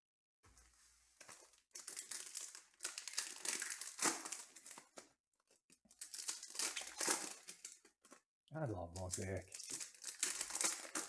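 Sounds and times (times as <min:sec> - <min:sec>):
foil wrappers crinkling and tearing: 0:01.2 - 0:08.2, 0:09.0 - 0:11.0.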